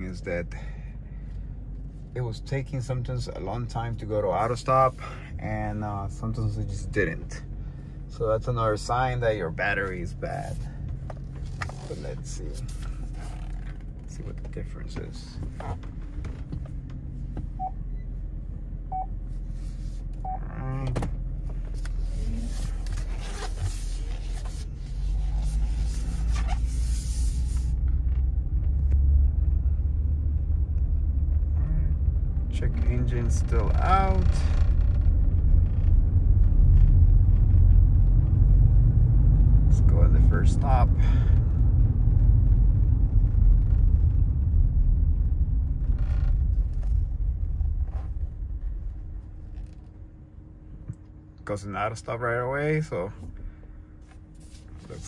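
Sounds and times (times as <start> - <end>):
car engine rumble from inside: 0.0 - 55.0.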